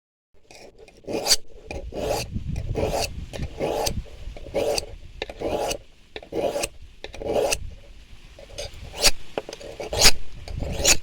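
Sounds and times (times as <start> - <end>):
knife sharpening strokes: 0.5 - 7.7, 8.4 - 11.0.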